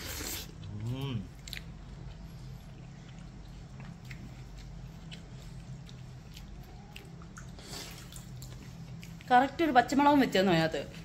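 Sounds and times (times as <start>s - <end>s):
faint wet chewing: 0.0s - 9.3s.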